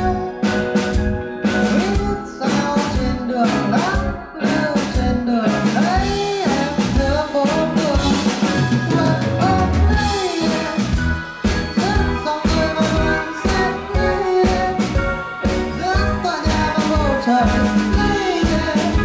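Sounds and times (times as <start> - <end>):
man singing into microphone: 0.0 - 0.6, 1.7 - 19.0
drum kit steady beat: 0.0 - 19.0
live band playing: 0.0 - 19.0.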